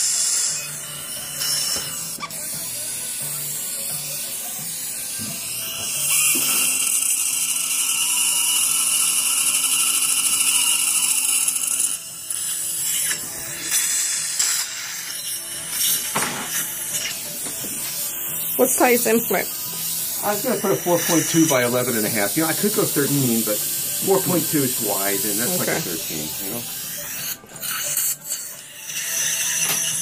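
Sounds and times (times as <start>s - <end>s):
dental drill whining: 0.0s - 30.0s
quiet background music: 0.0s - 30.0s.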